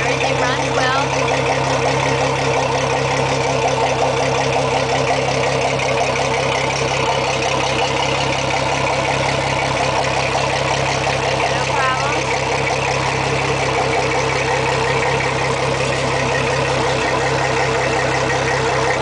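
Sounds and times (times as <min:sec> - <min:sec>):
outboard engine idling: 0:00.0 - 0:19.0.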